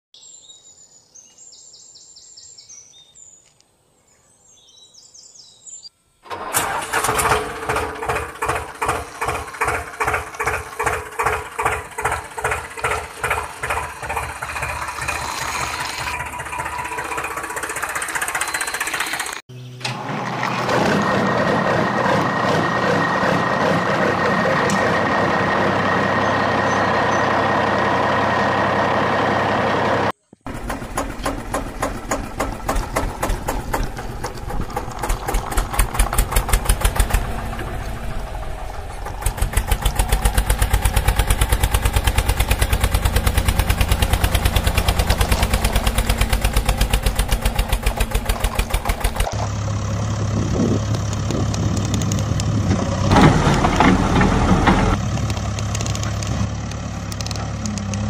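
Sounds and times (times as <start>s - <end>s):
engine running: 6.2s - 58.0s
engine chugging: 6.3s - 58.0s.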